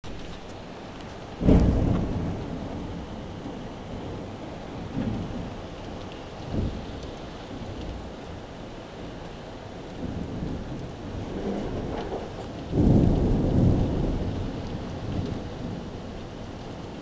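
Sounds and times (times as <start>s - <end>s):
heavy rain pouring: 0.0s - 17.0s
wind storm: 0.0s - 17.0s.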